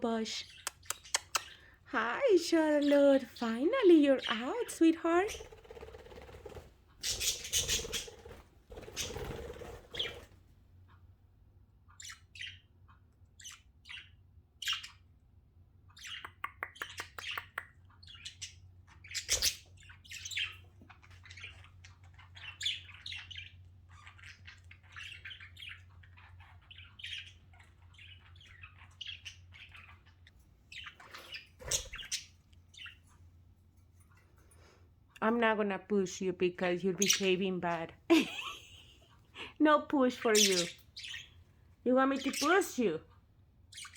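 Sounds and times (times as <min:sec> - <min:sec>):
budgerigars chirping and squawking: 0:00.1 - 0:11.1, 0:11.7 - 0:35.5, 0:36.2 - 0:43.9.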